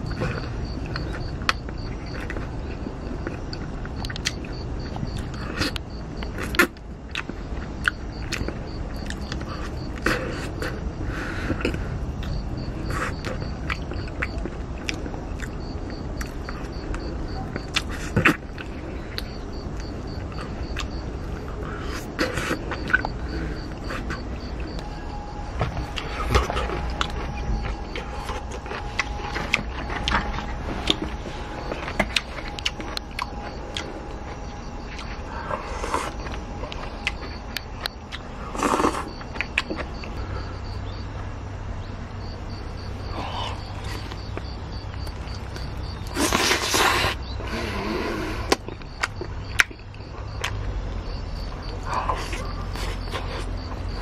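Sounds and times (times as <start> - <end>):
low steady rumble: 0.0 - 46.2
faint steady tone: 0.0 - 54.0.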